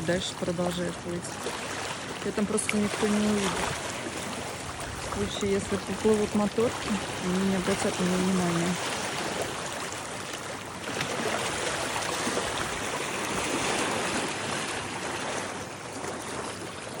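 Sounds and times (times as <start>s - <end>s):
sea waves washing in: 0.0s - 17.0s.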